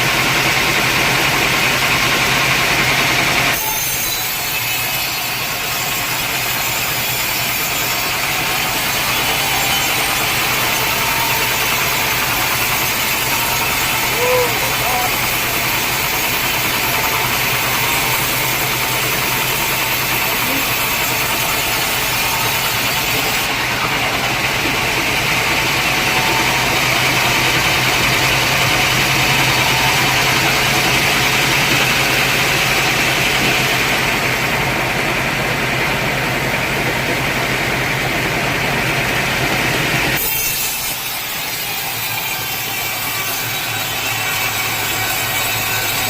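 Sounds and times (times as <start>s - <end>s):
sawmill machinery hum: 0.0s - 46.0s.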